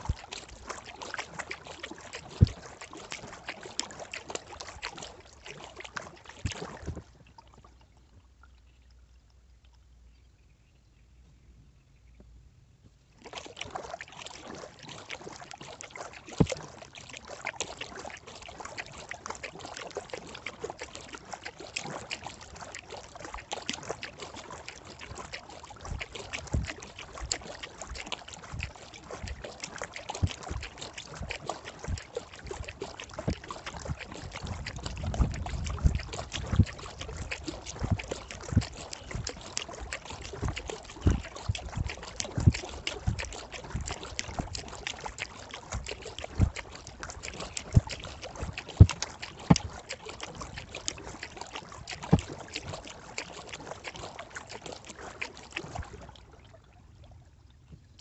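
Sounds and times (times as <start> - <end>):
paddle splashing water: 0.0 - 11.4, 12.0 - 58.0.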